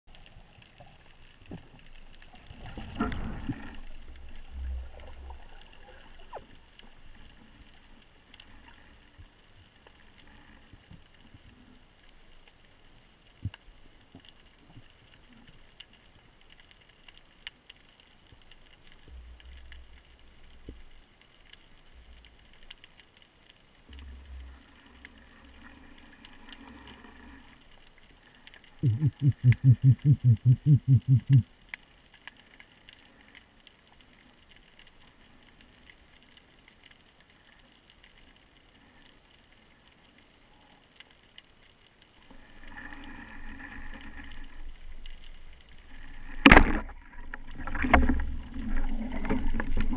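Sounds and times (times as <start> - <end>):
faint underwater water noise: 0.1 - 49.9.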